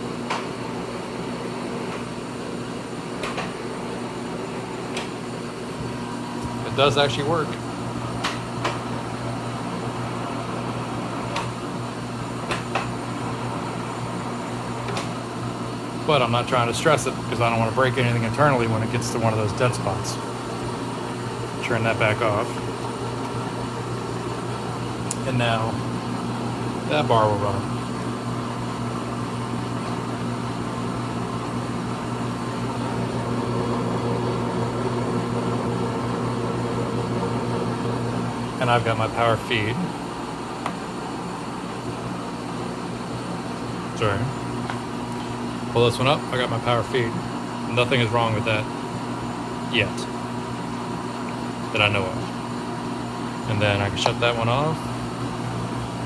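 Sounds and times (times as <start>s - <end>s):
lathe machine hum: 3.6s - 56.0s.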